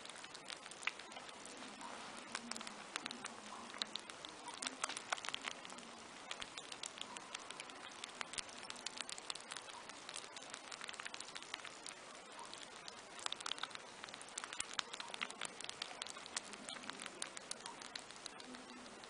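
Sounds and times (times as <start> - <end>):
faint hiss: 0.0 - 19.0
rabbits nibbling and chewing: 0.0 - 19.0.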